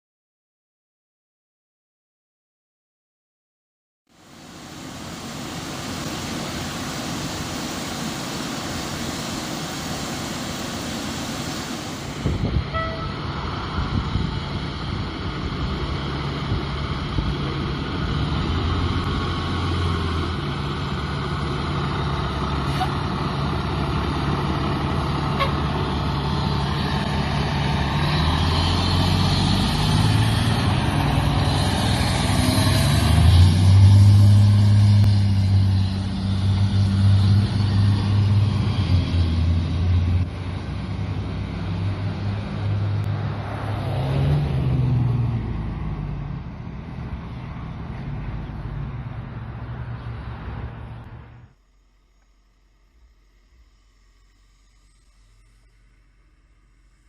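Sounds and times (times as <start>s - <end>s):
diesel engine drone: 4.1s - 57.0s.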